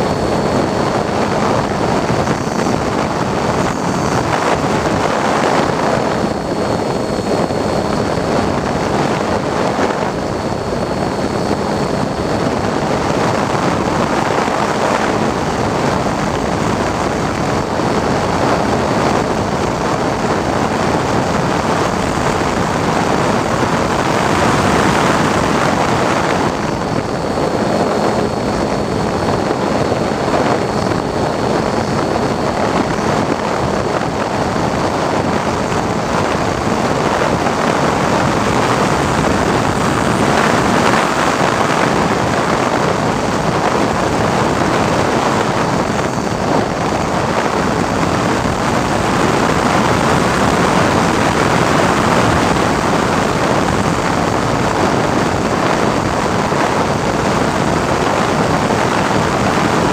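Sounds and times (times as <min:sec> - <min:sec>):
model aircraft motor and propeller: 0:00.0 - 0:59.9
wind rush on microphone: 0:00.0 - 0:59.9.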